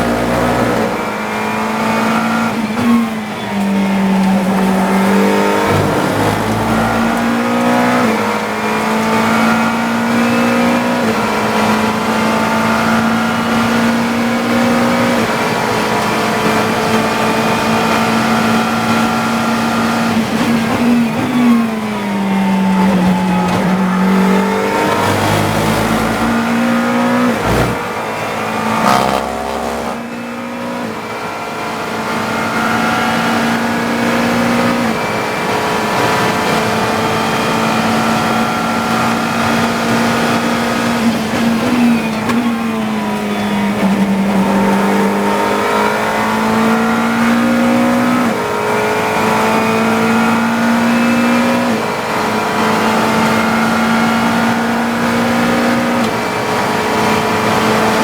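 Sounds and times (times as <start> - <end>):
race car engine shifting gears: 0.0 - 58.0.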